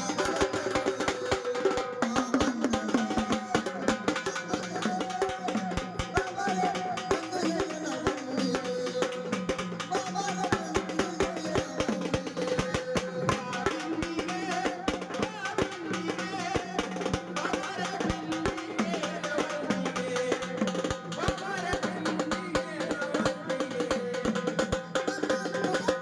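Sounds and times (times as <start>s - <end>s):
fast hand drum strokes: 0.0s - 26.0s.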